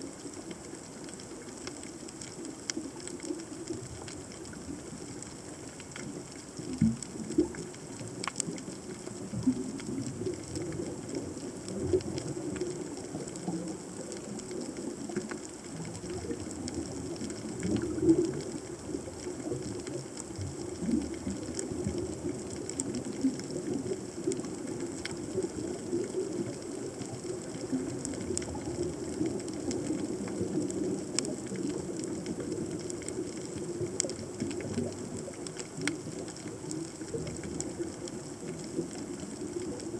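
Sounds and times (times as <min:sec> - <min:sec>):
underwater crackle and churn: 0:00.0 - 0:39.9
sharp underwater clicks: 0:00.1 - 0:39.9.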